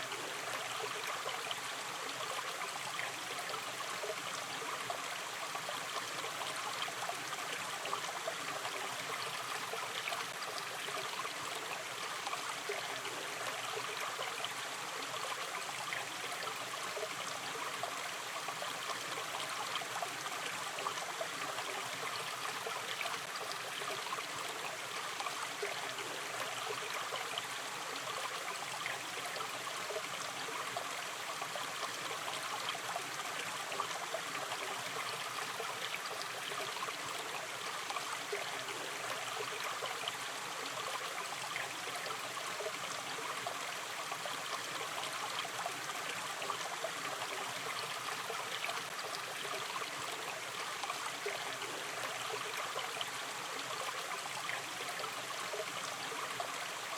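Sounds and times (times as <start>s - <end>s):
stream running over stones: 0.0s - 56.9s.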